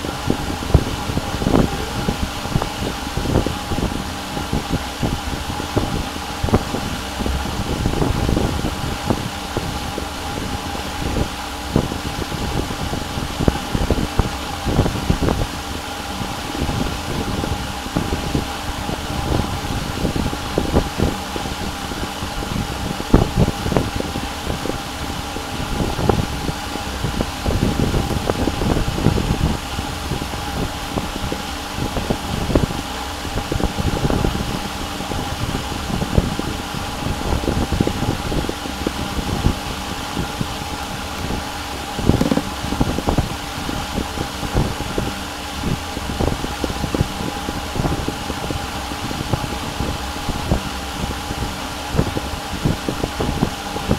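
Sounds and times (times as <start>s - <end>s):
computer fan hum with whine: 0.0s - 53.9s.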